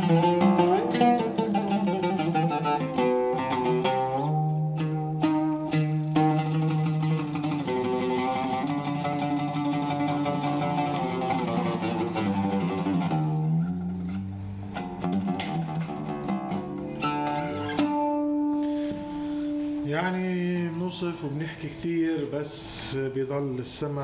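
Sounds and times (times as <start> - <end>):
plucked oud: 0.0 - 22.2.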